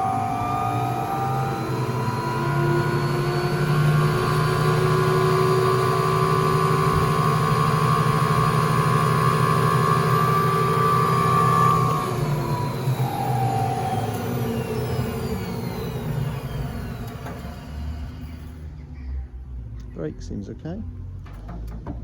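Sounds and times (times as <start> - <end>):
spin dryer motor hum and whine: 0.0 - 18.8.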